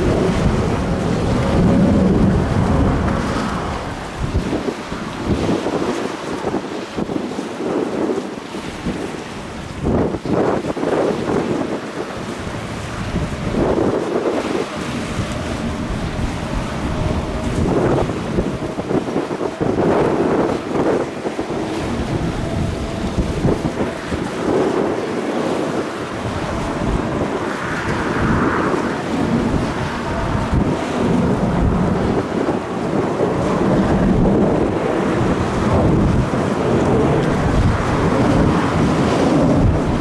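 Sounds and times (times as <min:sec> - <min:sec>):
gusting wind buffeting microphone: 0:00.0 - 0:40.0.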